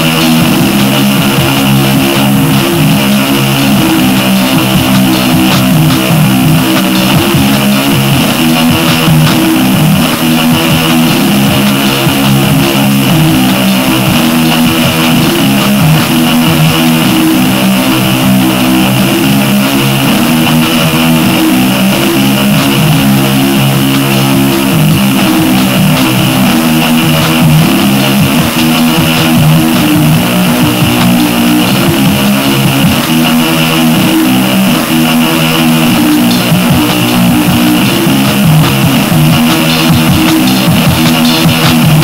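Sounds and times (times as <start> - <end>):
distorted buzzing low drone: 0.0 - 42.0.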